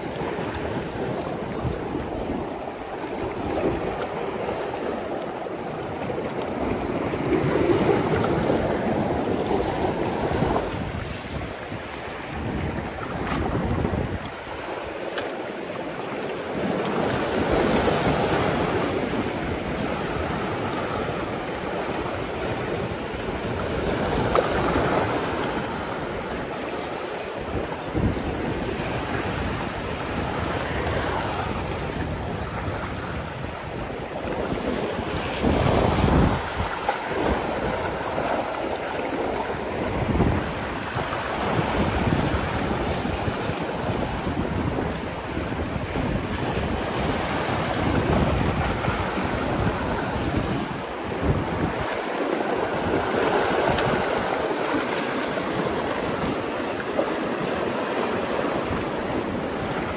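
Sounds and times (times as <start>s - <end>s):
waves breaking on rocky shore: 0.0s - 59.9s
wind buffeting microphone: 0.0s - 59.9s.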